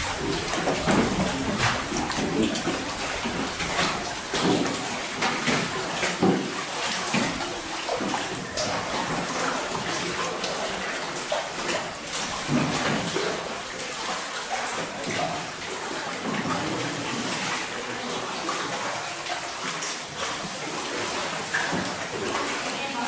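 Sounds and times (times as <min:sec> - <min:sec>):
oars splashing in water: 0:00.0 - 0:23.0
water lapping: 0:00.0 - 0:23.0.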